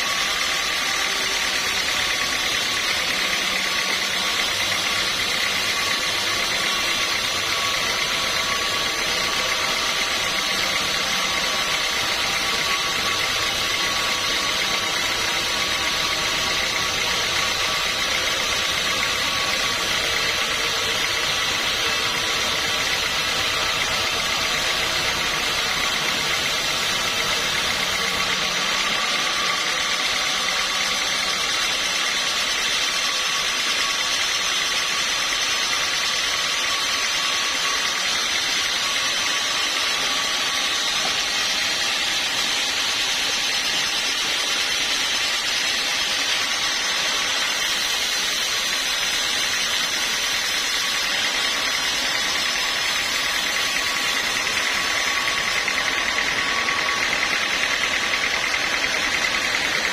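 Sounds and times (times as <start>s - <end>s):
machinery drone: 0.0s - 59.9s.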